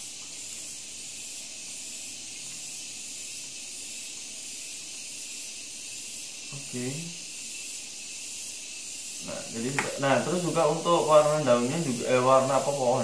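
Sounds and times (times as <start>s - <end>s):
high-pitched recording hiss: 0.0s - 13.0s.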